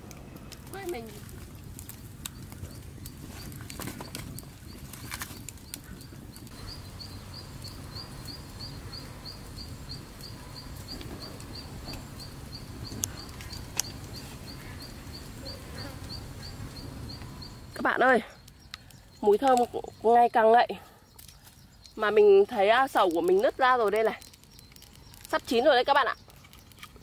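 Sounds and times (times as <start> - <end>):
insect chirping: 0.7 - 27.0.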